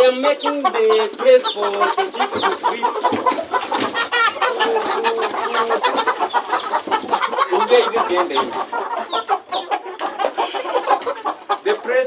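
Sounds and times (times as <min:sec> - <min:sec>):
young chickens clucking: 0:00.0 - 0:12.0.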